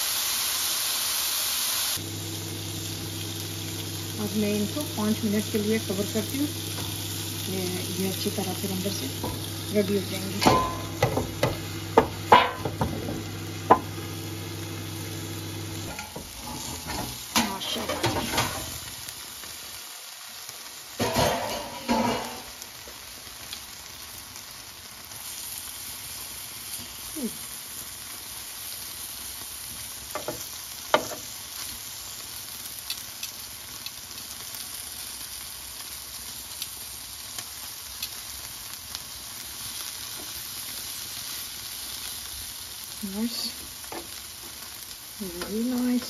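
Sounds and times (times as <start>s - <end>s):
food sizzling in oil: 0.0s - 46.0s.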